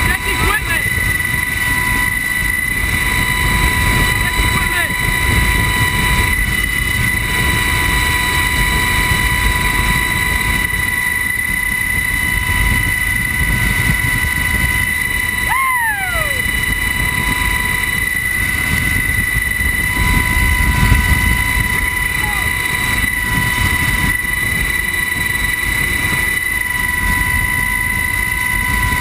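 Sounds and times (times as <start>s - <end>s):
constant high whine: 0.0s - 29.0s
helicopter engine and rotor noise: 0.0s - 29.0s.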